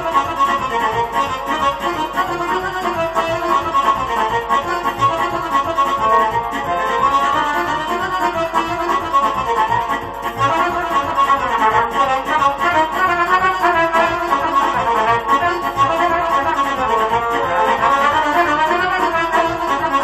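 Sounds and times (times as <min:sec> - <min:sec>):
accordion melody: 0:00.0 - 0:20.0
keyboard playing folk dance backing: 0:00.0 - 0:20.0.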